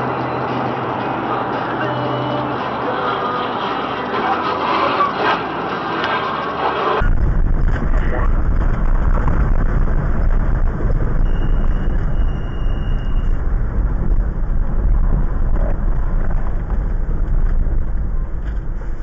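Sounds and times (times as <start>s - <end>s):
car driving noise: 0.0s - 19.0s
low rumble of road and wind: 0.0s - 19.0s.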